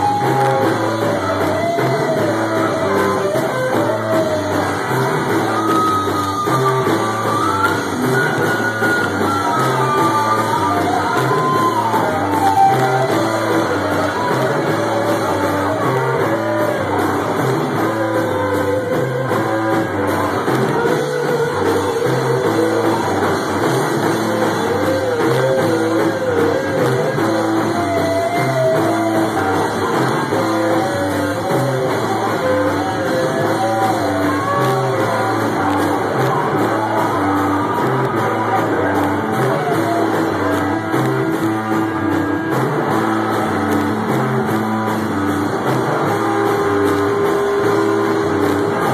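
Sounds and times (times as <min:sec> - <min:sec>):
person singing: 0:00.0 - 0:43.7
drum kit: 0:00.0 - 0:48.9
electric guitar: 0:00.0 - 0:48.9.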